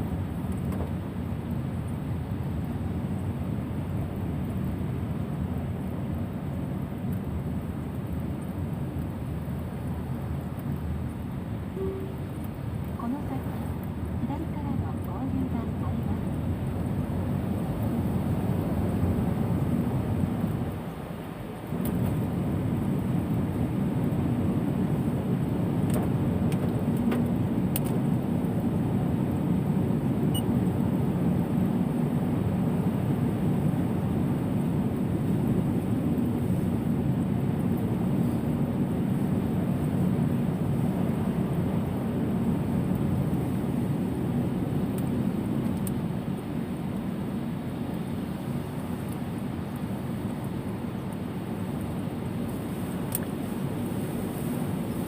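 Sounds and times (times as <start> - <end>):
tyres rumbling on wet road: 0.0 - 55.0.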